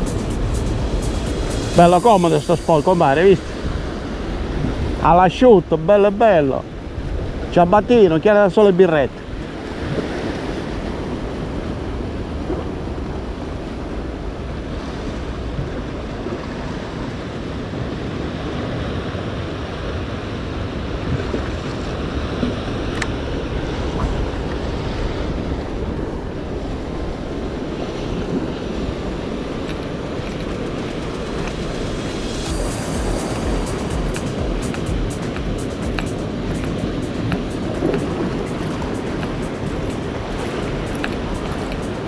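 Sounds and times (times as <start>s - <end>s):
wind on microphone: 0.0s - 5.8s, 6.6s - 8.0s, 9.1s - 42.0s
surf washing against rocks: 0.0s - 42.0s.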